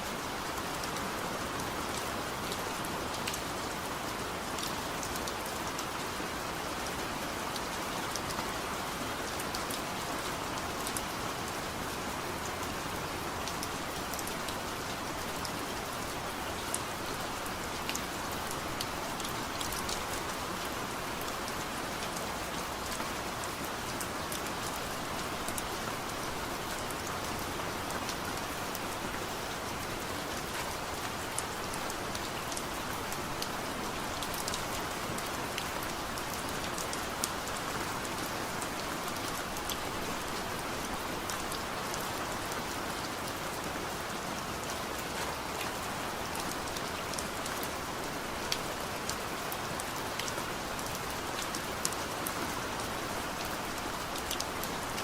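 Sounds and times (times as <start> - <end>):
raindrops ticking on a surface: 0.2 - 55.0.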